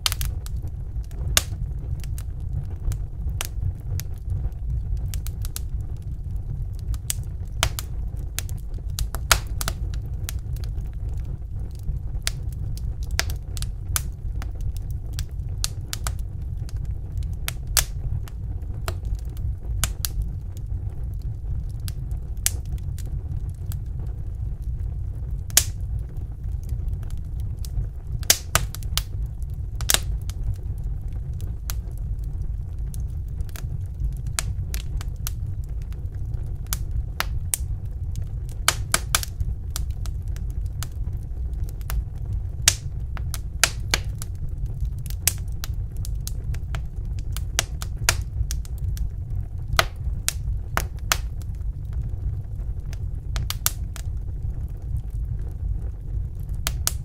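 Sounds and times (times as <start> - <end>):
low rumble of fire: 0.0 - 57.0
wood fire crackling: 0.0 - 57.0.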